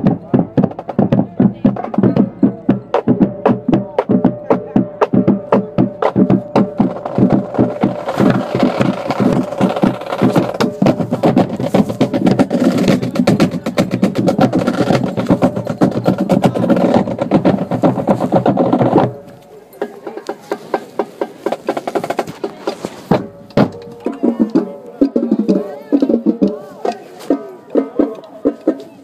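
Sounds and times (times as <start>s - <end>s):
marching band drum beat: 0.0s - 29.0s.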